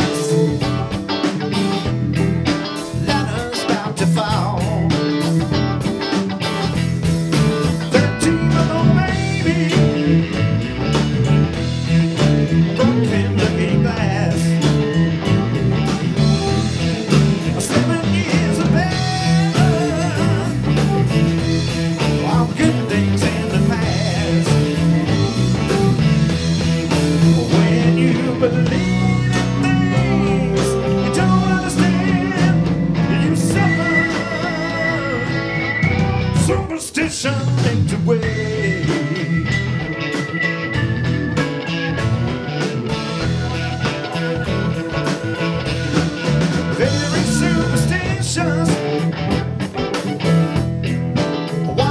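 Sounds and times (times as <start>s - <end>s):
bass guitar: 0.0s - 51.9s
electric guitar: 0.0s - 51.9s
keyboards: 0.0s - 51.9s.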